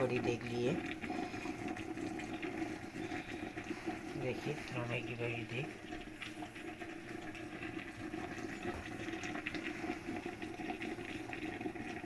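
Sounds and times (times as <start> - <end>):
water splashing in a cooking pot: 0.0 - 12.0.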